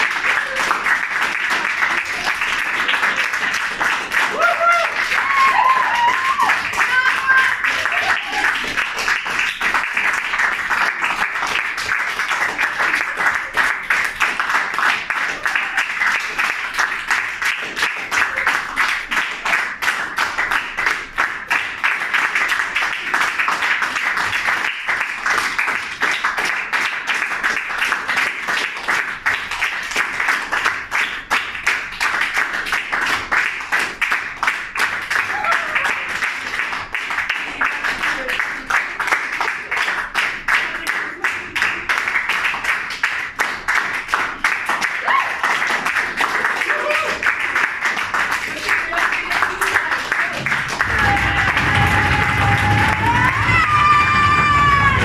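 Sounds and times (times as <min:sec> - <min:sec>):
people clapping: 0:00.0 - 0:55.0.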